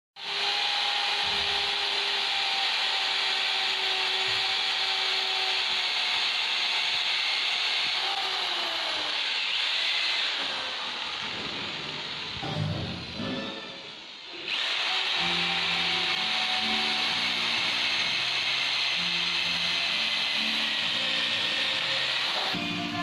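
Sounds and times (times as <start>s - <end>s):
electric drill boring into wood: 0.2s - 13.2s, 14.0s - 23.0s.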